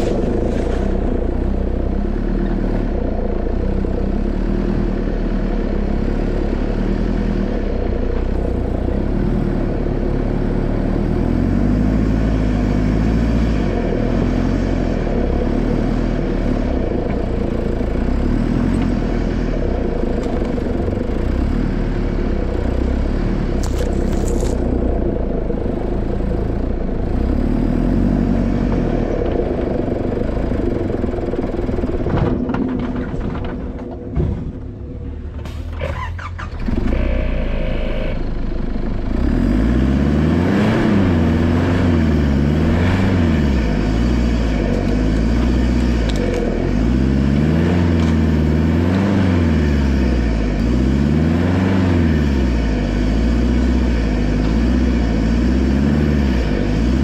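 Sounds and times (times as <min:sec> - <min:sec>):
diesel engine running low revs: 0:00.0 - 0:57.0.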